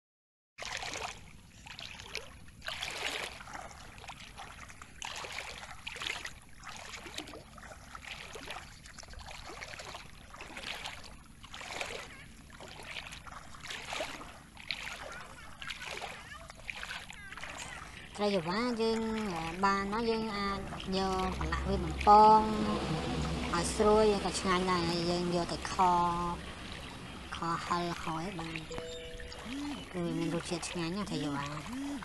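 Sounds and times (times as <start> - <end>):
feet wading through water: 0.6 - 32.0.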